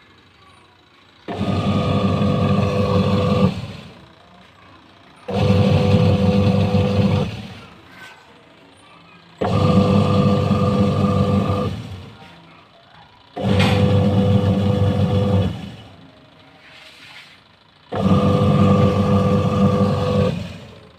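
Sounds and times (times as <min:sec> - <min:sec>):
washing machine motor humming: 0:00.0 - 0:20.9.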